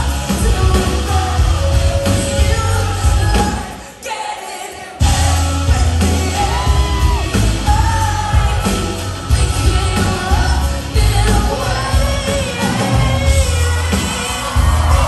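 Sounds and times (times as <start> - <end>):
lead singer singing: 0.0 - 15.0
live pop band playing: 0.0 - 15.0.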